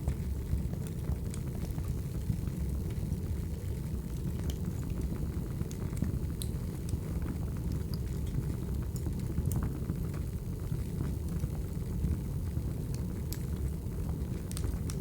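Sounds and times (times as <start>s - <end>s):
fire crackles and pops: 0.0s - 15.0s
low rumble of fire: 0.0s - 15.0s.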